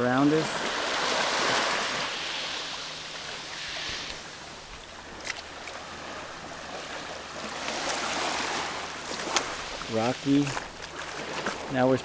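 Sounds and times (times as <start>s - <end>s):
small waves on rocky beach: 0.0s - 12.0s.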